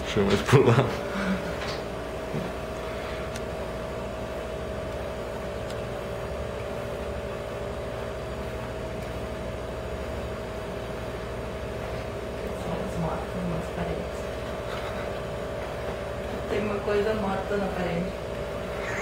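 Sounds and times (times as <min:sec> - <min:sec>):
mechanical hum with steady tone: 0:00.0 - 0:19.0.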